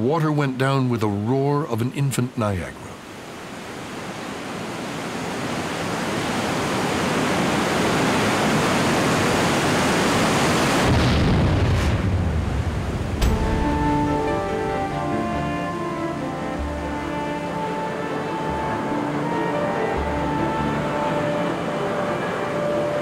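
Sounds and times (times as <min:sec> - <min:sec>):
rushing water roaring: 0:00.0 - 0:23.0.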